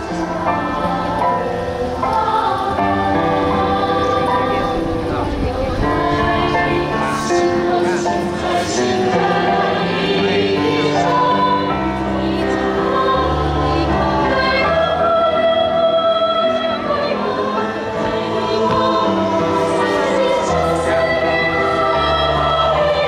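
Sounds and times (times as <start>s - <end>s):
choir singing sustained chords: 0.0s - 23.0s.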